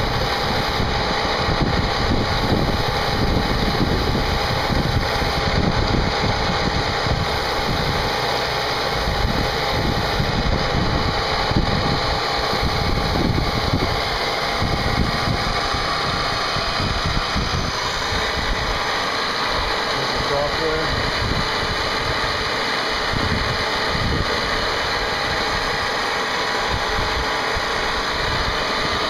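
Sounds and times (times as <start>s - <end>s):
cnc machine spindle whining: 0.0s - 29.0s.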